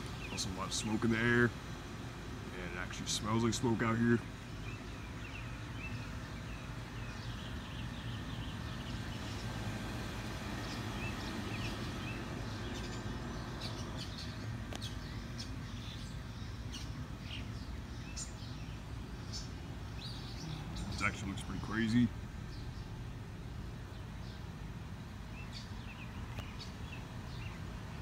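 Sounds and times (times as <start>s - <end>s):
low background rumble: 0.0s - 28.0s
small birds chirping: 0.0s - 28.0s.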